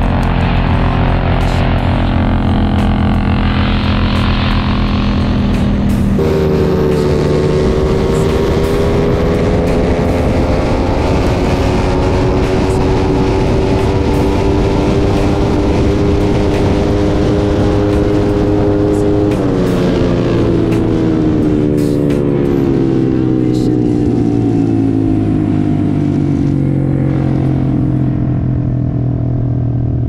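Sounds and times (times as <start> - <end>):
motorbike engine at high revs: 0.0 - 30.0
wind rush on microphone: 0.0 - 30.0.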